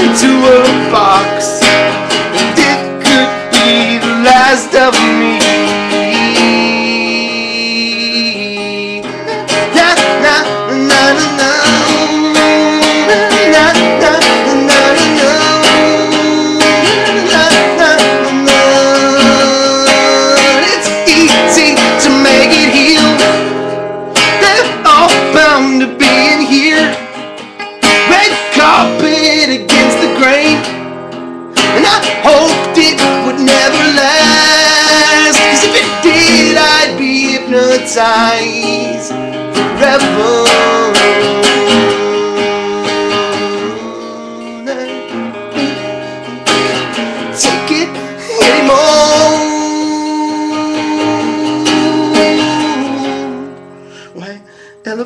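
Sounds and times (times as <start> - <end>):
person singing: 0.0 - 30.8, 31.6 - 55.0
acoustic guitar: 0.0 - 55.0.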